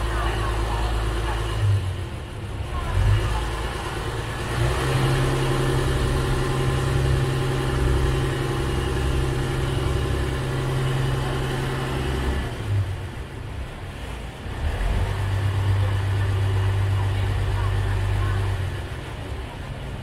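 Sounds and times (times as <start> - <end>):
ferry engine humming: 0.0 - 20.0
river water washing: 0.0 - 20.0.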